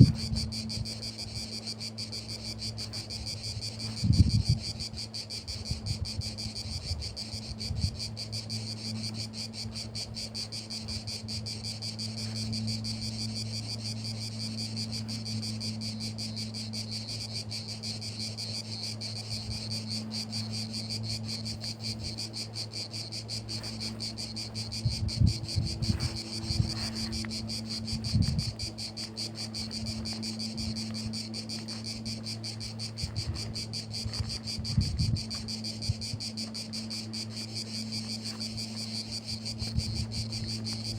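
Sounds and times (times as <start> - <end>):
insects trilling: 0.0 - 40.9
low hum: 0.0 - 40.9.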